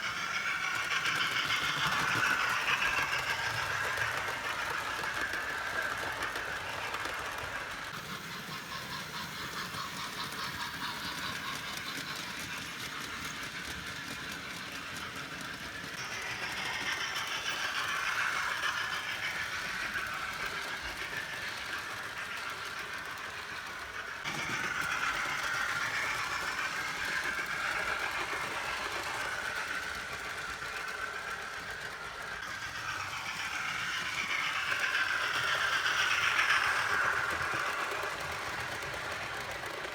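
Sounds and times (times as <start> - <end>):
model steam engine sounds: 0.0 - 39.9
model train wheels rattling: 0.0 - 39.9.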